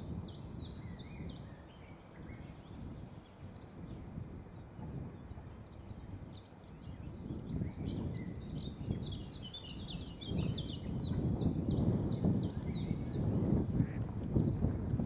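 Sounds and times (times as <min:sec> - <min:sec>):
songbird singing down-slurred notes: 0:00.0 - 0:15.0.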